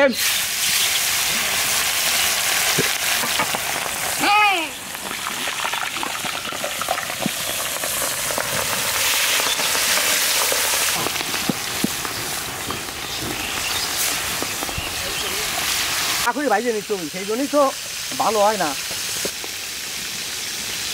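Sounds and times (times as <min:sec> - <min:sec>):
fish frying in hot oil: 0:00.0 - 0:20.9
oil crackling: 0:00.0 - 0:20.9.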